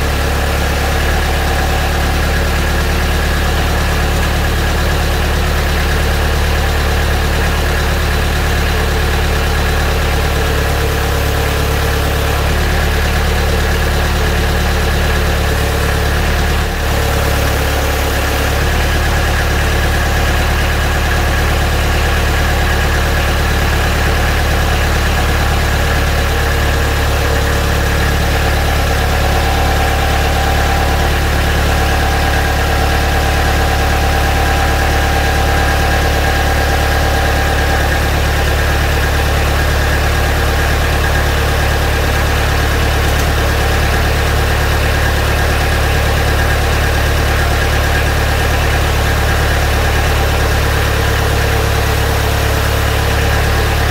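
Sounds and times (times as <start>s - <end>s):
tractor diesel engine idling: 0.0s - 53.9s.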